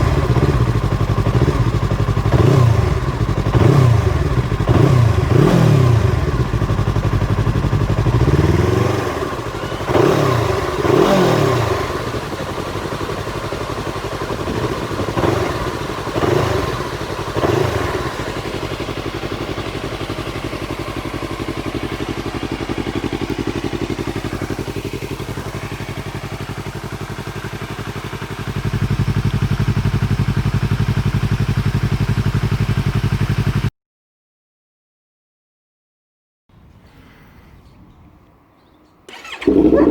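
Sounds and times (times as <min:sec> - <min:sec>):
motorcycle engine revving and idling: 0:00.0 - 0:33.7, 0:38.6 - 0:39.9.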